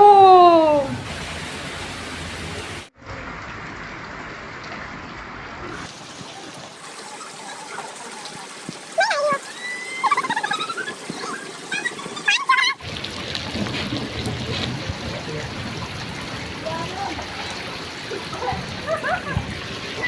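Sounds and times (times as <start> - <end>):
rain pouring: 0.0 - 20.0.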